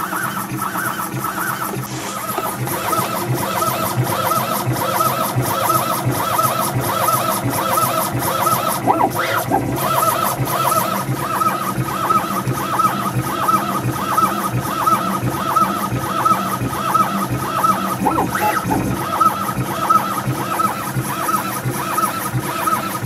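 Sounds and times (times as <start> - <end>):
stepper motors whining: 0.0 - 23.0
machine knocking: 1.0 - 20.0.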